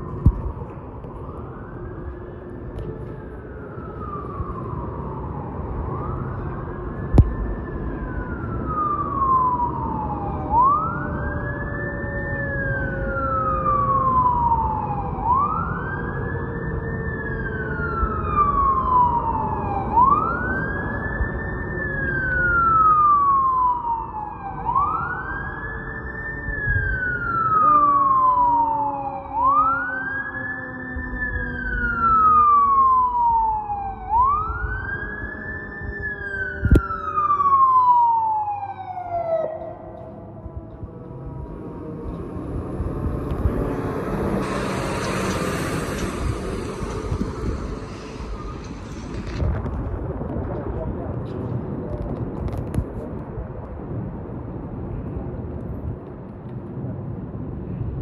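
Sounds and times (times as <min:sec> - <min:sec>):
fire truck siren wailing: 0:00.0 - 0:54.8.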